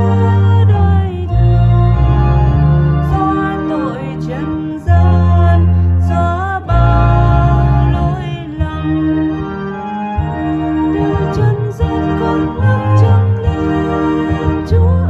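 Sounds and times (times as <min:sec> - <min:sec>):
electronic organ chords: 0:00.0 - 0:15.0.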